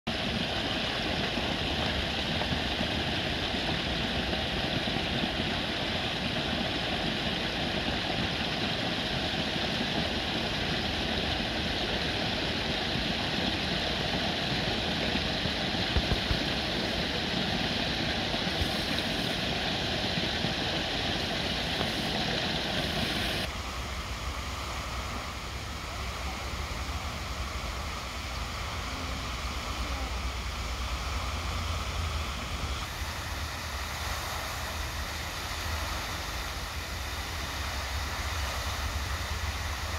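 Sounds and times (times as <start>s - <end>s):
fountain spray falling onto water: 0.1s - 39.9s
waterfall splashing over rocks: 0.1s - 39.9s.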